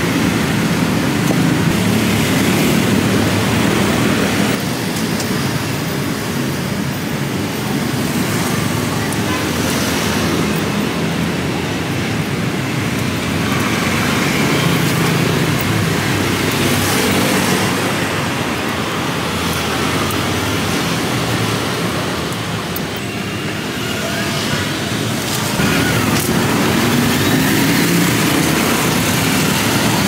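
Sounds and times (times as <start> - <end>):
street traffic hum: 0.0 - 30.0.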